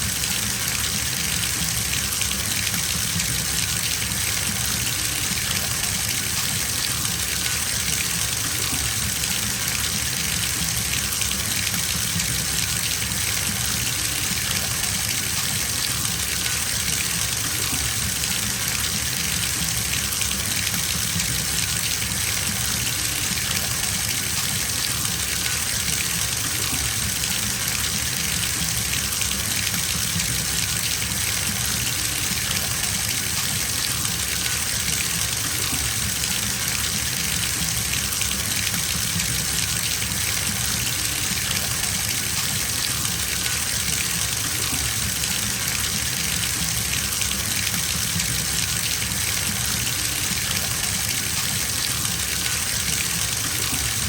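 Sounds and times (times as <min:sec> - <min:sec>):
water running into bathtub: 0:00.0 - 0:54.0.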